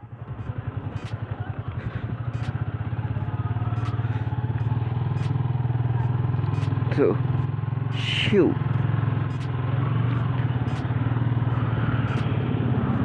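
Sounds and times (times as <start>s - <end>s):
motorcycle engine pulling away: 0.0s - 13.0s.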